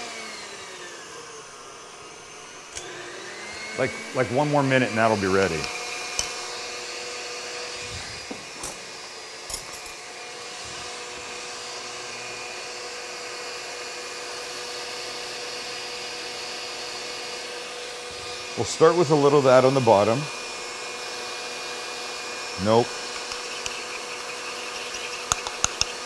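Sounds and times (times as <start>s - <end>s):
stand mixer motor whirring: 0.0s - 26.0s.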